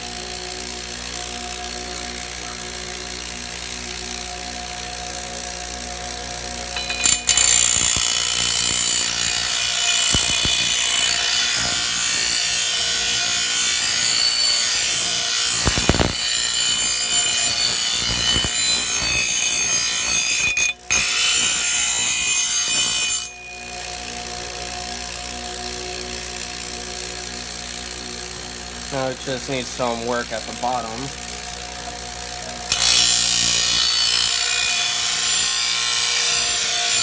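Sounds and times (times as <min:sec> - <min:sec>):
grinder wheel grinding steel: 0:00.0 - 0:37.0.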